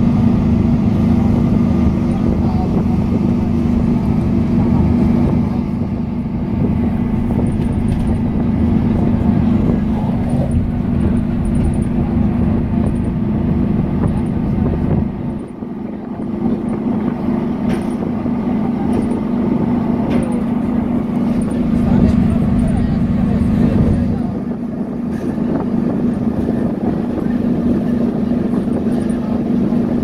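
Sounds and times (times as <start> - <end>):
bus engine and tyre drone: 0.0 - 30.0.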